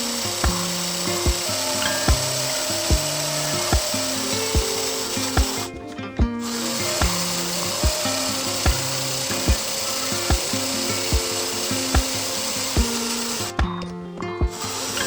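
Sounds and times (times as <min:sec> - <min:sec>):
power tool rasping on metal: 0:00.0 - 0:05.7, 0:06.5 - 0:13.5
background music with slow beat: 0:00.0 - 0:15.0.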